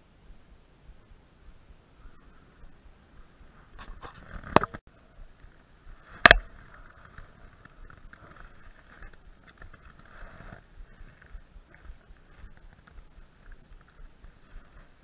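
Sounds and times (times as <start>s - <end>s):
faint rustling: 1.4s - 15.0s.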